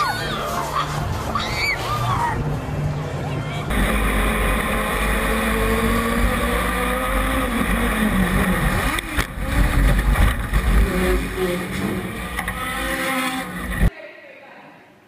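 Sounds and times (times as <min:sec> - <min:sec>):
engine running with low rumble: 0:01.0 - 0:13.9.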